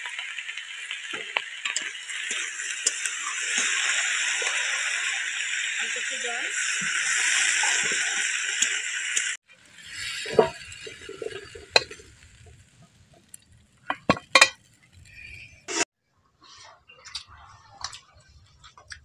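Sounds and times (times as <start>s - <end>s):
onions sizzling in hot oil: 0.0s - 15.9s.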